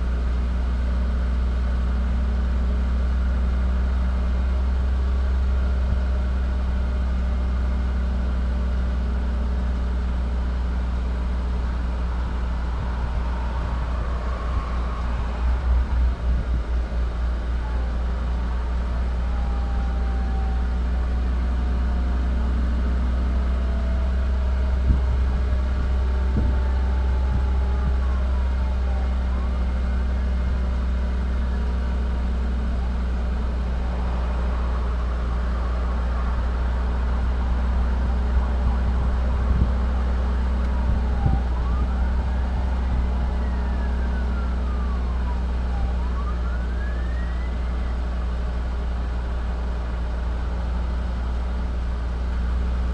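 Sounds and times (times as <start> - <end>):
vehicle engine idling: 0.0 - 52.9.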